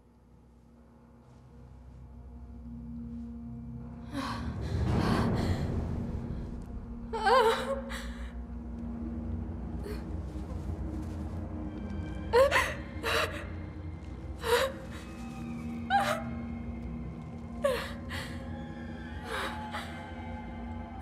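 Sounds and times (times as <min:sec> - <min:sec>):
low droning horror score: 0:00.0 - 0:21.0.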